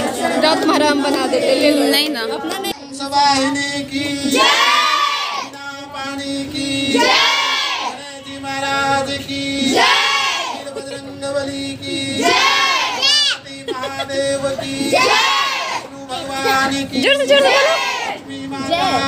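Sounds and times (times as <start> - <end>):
girls singing together: 0.0 - 2.8, 3.4 - 19.0.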